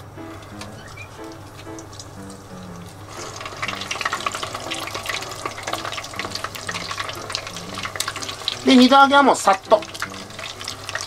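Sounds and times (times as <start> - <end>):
chicken sizzling in hot oil: 0.7 - 11.0.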